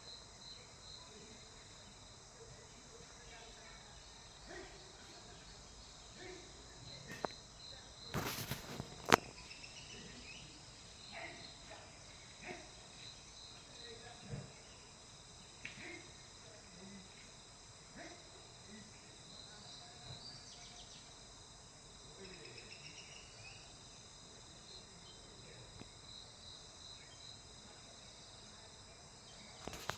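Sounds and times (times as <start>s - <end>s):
insects trilling: 0.0s - 29.9s.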